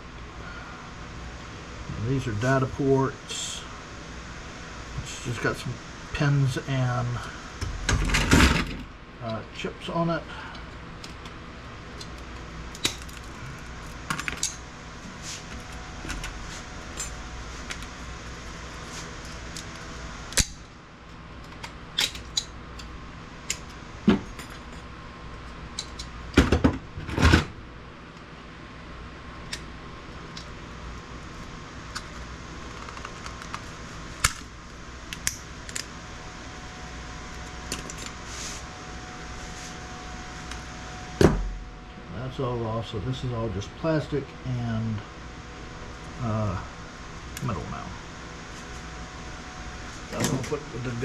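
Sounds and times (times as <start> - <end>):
steady background hum: 0.0 - 51.0.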